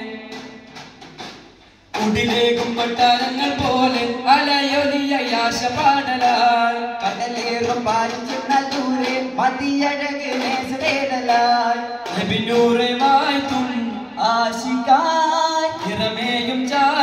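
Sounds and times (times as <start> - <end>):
man singing devotional song: 0.0 - 0.6, 1.9 - 17.0
frame drum strokes: 0.0 - 14.6.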